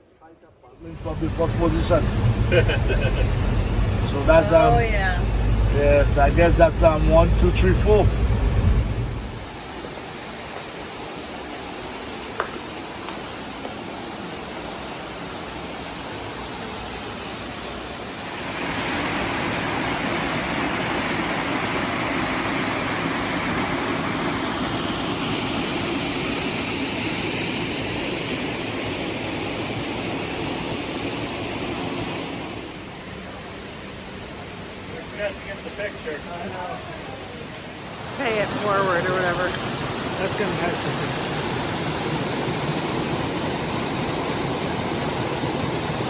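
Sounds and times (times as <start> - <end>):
waterfall rushing: 0.8 - 46.0.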